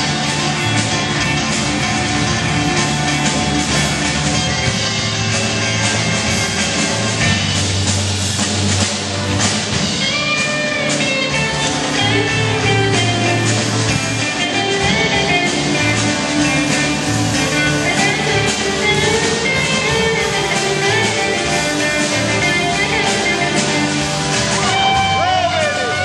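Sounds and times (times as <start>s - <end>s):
bass guitar: 0.0s - 26.0s
electric guitar bent notes: 0.0s - 26.0s
live rock band: 0.0s - 26.0s.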